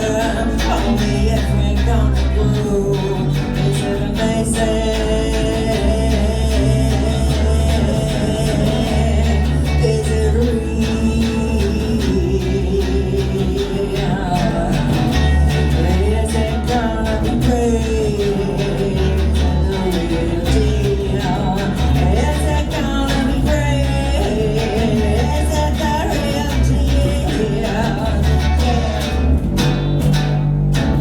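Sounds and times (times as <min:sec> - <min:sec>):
pulsing bass and drums: 0:00.0 - 0:31.0.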